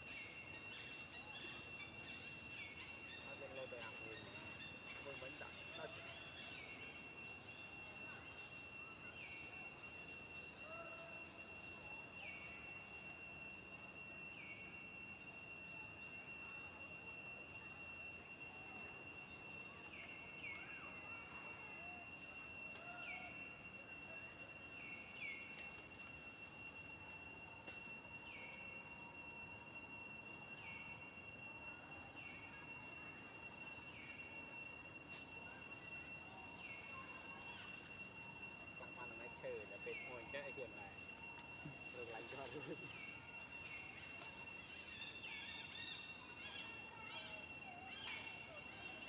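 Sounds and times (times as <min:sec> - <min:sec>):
high-pitched insect drone: 0:00.0 - 0:49.0.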